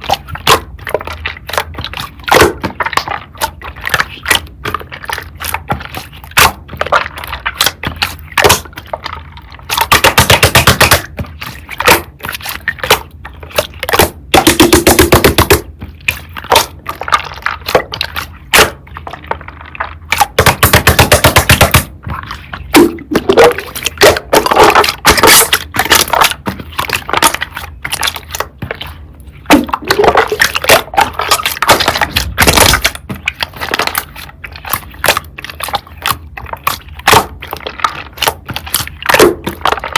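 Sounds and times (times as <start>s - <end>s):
slime rapid crackling: 0.0s - 39.9s.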